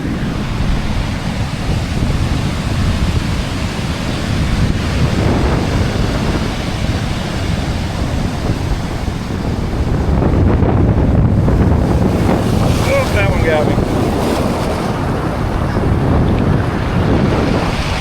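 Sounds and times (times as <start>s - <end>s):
ocean surf washing up: 0.0s - 18.0s
wind buffeting microphone: 0.0s - 18.0s.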